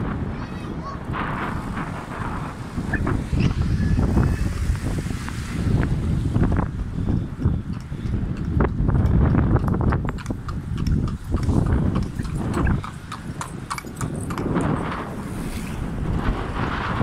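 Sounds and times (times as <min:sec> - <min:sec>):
wind rumble on microphone: 0:00.0 - 0:17.0
hooves clip-clopping on asphalt: 0:01.3 - 0:17.0.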